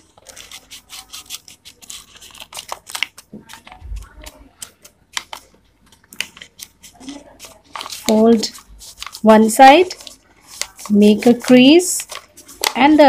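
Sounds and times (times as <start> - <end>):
paper crackling being folded: 0.0 - 13.0.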